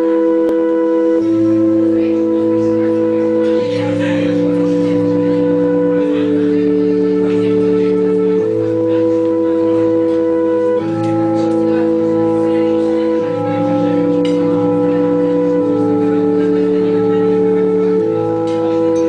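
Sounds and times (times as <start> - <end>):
live band playing held chords: 0.0 - 19.0.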